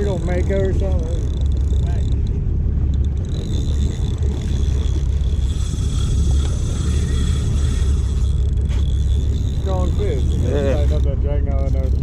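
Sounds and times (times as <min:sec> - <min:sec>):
fishing reel gears whining: 0:00.0 - 0:12.0
low rumble on microphone: 0:00.0 - 0:12.0.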